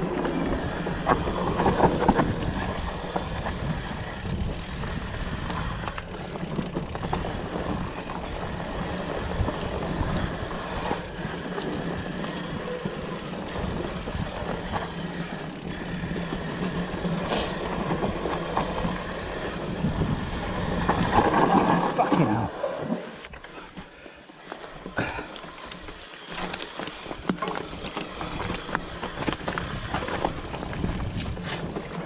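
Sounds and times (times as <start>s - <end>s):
bike rattling and knocking: 0.0s - 22.0s, 24.4s - 32.0s
wind on camera: 0.0s - 22.6s, 25.6s - 32.0s
bike tyres rumbling on dirt: 0.0s - 32.0s.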